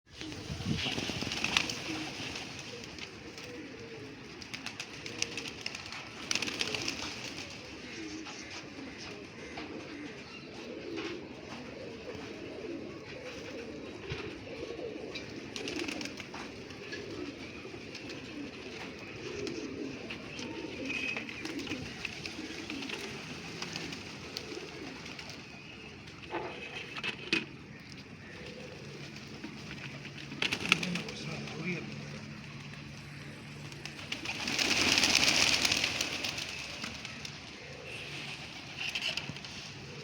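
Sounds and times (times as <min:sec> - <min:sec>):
pigeons cooing: 0:00.1 - 0:40.0.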